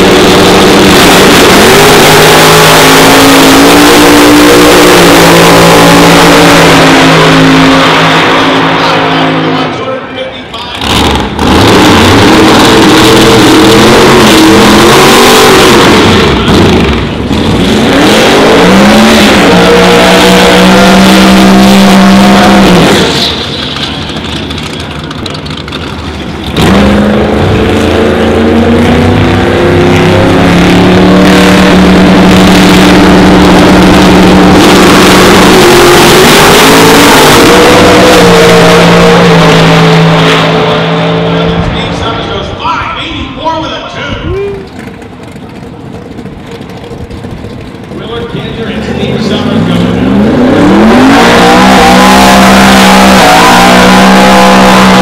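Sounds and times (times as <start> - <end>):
drag racing car engines revving: 0.0 - 55.0.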